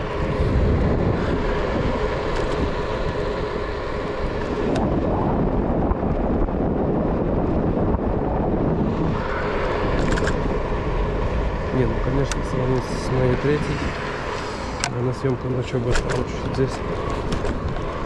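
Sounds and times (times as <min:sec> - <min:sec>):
bicycle tyres rolling on pavement: 0:00.0 - 0:18.0
wind rush on microphone: 0:00.0 - 0:18.0.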